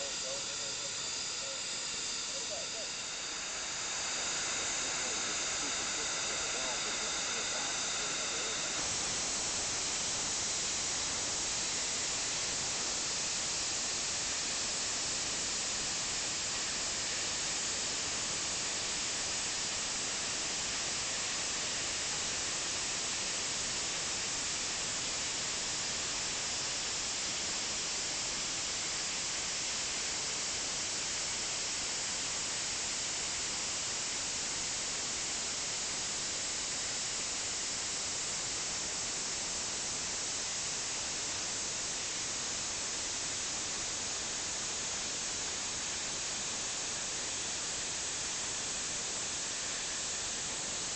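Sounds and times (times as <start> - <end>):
steam hissing from locomotive: 0.0 - 50.9.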